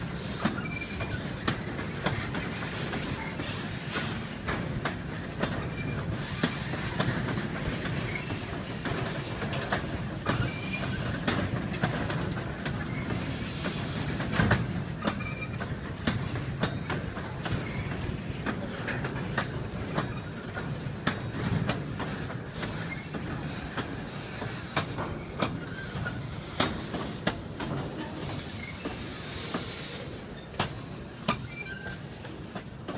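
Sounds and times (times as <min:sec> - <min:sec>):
train rumbling on track: 0:00.0 - 0:32.9
wheels clicking over rail joints: 0:00.0 - 0:32.9.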